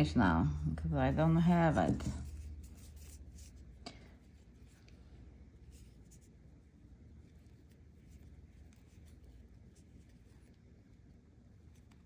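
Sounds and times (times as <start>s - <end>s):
yarn rustling: 0.8s - 12.0s.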